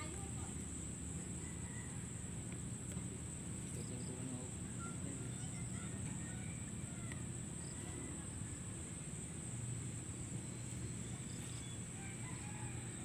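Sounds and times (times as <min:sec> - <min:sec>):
insects droning: 0:00.0 - 0:13.0
low outdoor rumble: 0:00.0 - 0:13.0.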